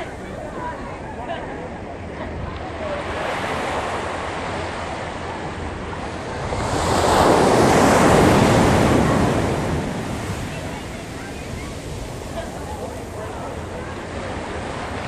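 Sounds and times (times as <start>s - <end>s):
ocean waves crashing: 0.0s - 15.0s.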